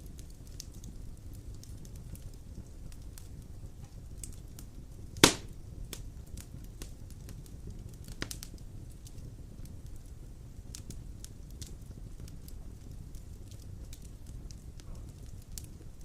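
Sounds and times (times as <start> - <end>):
fire crackling: 0.0 - 16.0
log popping in fire: 0.0 - 16.0
wood fire rumbling: 0.0 - 16.0.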